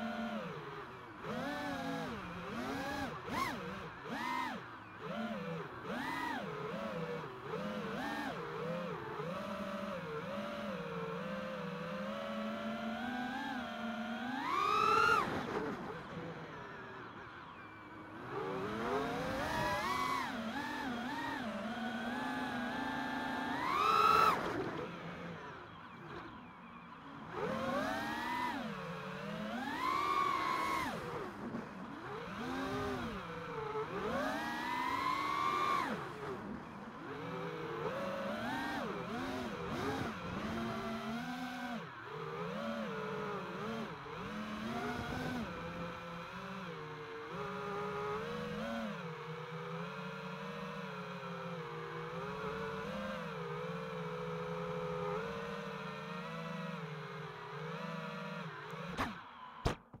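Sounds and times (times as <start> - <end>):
drone motors whining: 0.0 - 60.0.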